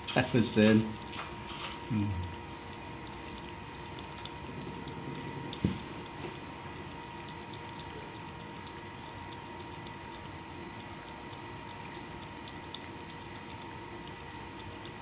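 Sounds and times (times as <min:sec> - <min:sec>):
cat lapping water: 0:00.4 - 0:15.0.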